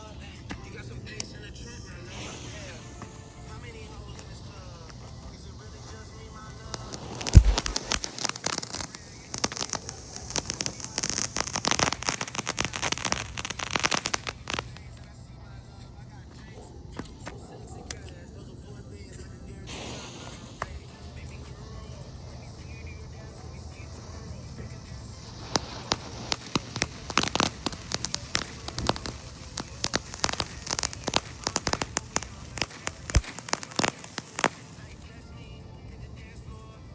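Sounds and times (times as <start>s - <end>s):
firework crackling pops: 0.0s - 15.2s, 19.6s - 35.2s
high hiss: 1.1s - 15.2s, 19.7s - 35.2s.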